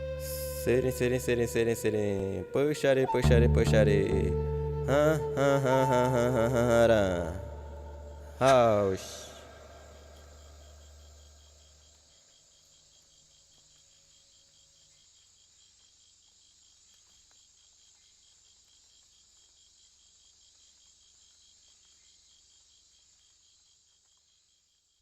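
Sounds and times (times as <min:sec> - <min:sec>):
insect chorus chirping: 0:00.0 - 0:03.3, 0:04.0 - 0:25.0.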